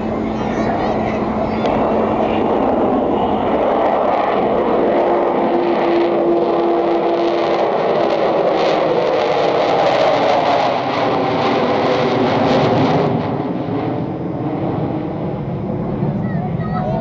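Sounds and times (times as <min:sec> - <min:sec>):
jet bomber engines roaring: 0:00.0 - 0:17.0.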